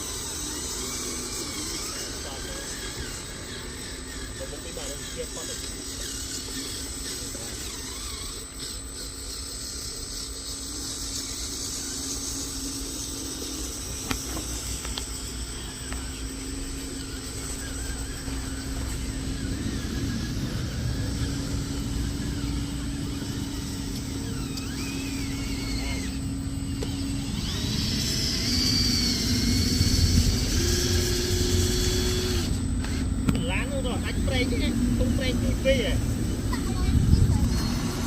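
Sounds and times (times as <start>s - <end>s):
toy electric motors whining: 0.0s - 38.0s.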